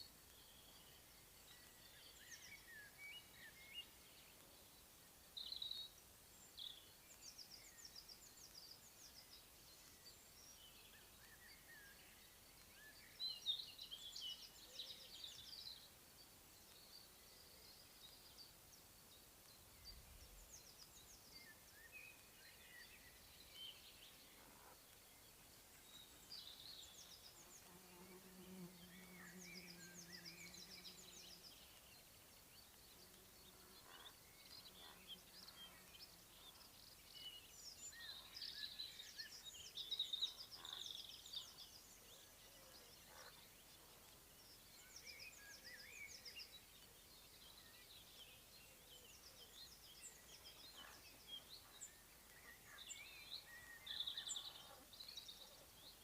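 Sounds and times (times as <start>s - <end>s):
faint birdsong: 0.0s - 56.0s.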